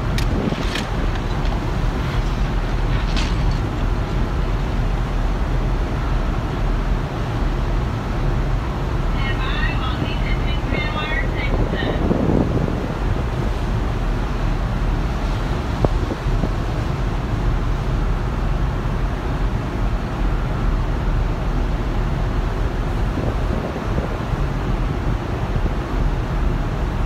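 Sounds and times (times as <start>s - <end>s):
rushing sea water: 0.0s - 27.0s
wind buffeting microphone: 0.0s - 27.0s.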